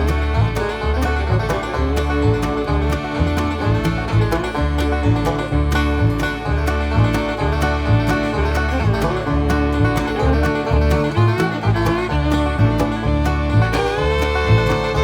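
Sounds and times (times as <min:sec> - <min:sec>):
upbeat bluegrass tune: 0:00.0 - 0:15.0.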